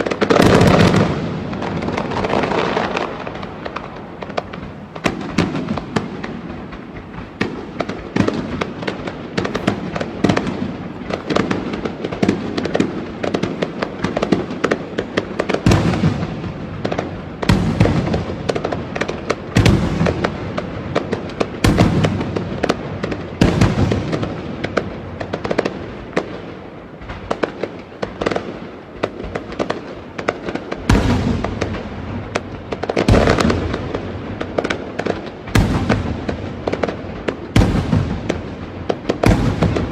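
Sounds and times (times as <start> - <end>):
fireworks crackling and banging: 0.0 - 39.9
heavy firework bursts: 0.0 - 39.9.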